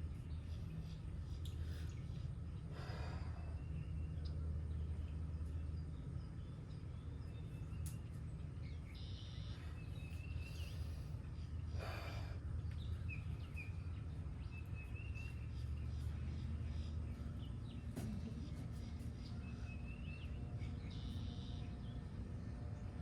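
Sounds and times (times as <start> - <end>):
low background rumble: 0.0 - 23.0
songbirds chirping: 0.0 - 23.0.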